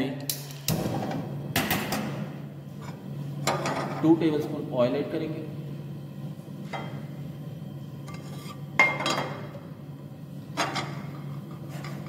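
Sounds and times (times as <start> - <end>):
low hum: 0.4 - 12.0.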